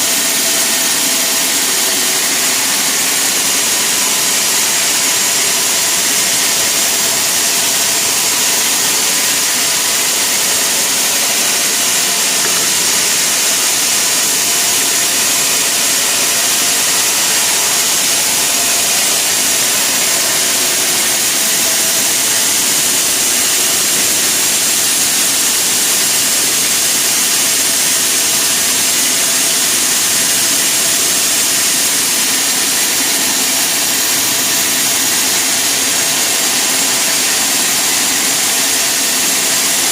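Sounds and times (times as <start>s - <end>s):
sawmill machinery hiss: 0.0s - 39.9s.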